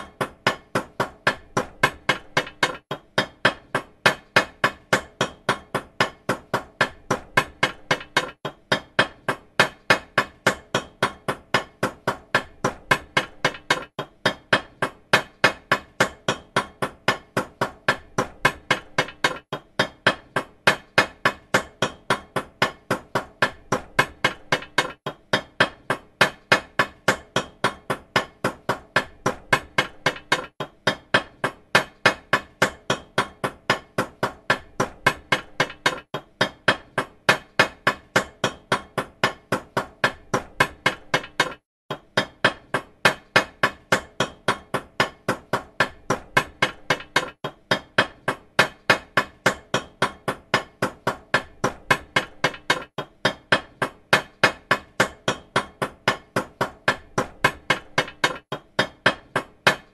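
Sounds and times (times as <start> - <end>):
hammer driving nails: 0.0 - 59.9.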